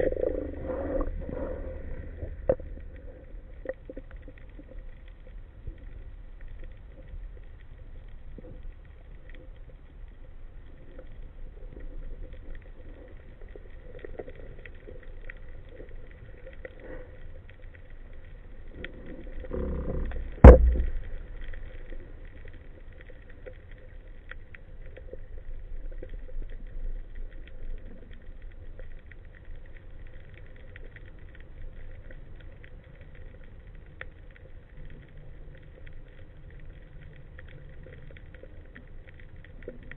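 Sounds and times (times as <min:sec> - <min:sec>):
faint crackling: 0:00.0 - 0:39.9
underwater low rumble: 0:00.0 - 0:39.9.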